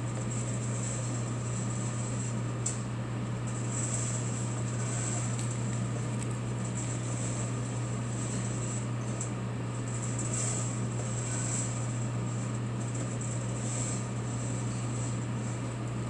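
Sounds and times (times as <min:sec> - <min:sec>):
coffee roaster fan humming: 0:00.0 - 0:16.0.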